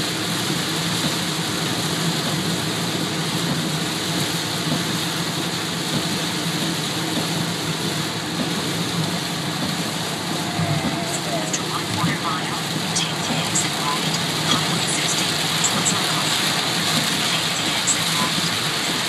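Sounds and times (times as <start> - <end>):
heavy rain on car roof: 0.0 - 19.0.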